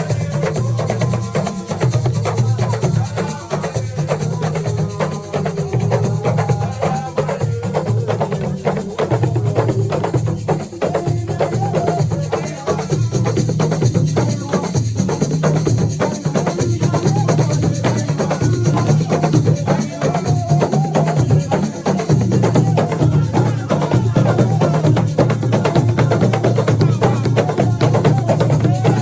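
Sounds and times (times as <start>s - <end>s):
hand drums: 0.0s - 29.0s
shakers: 0.0s - 29.0s.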